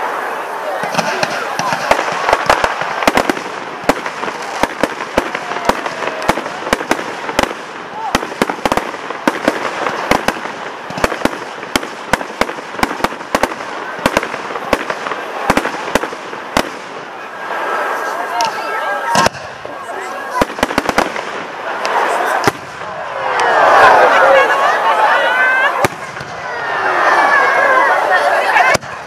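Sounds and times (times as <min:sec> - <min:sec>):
fireworks bursting with bangs: 0:00.0 - 0:24.6, 0:25.7 - 0:27.6, 0:28.4 - 0:29.0.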